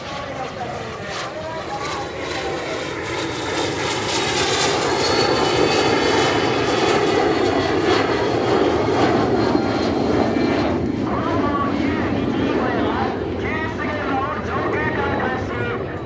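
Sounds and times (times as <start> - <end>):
jet flying past: 0.0 - 16.0
turbine whine: 0.0 - 16.0.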